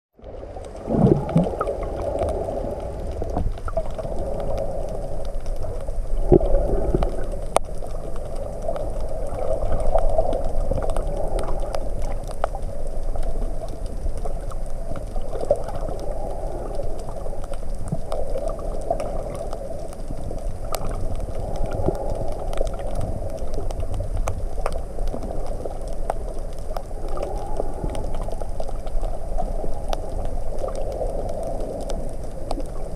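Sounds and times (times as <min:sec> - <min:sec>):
faint clicks: 0:00.2 - 0:32.9
underwater churning water: 0:00.2 - 0:32.9.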